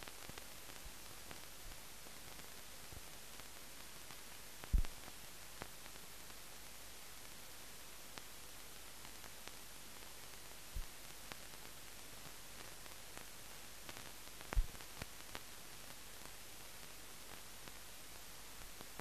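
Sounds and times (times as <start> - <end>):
film hiss: 0.0 - 19.0.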